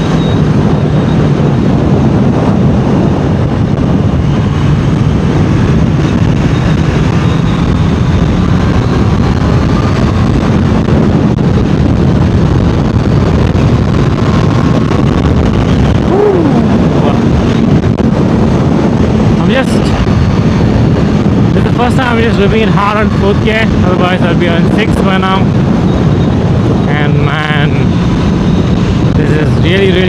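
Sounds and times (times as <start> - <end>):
wind rush on microphone: 0.0 - 30.0.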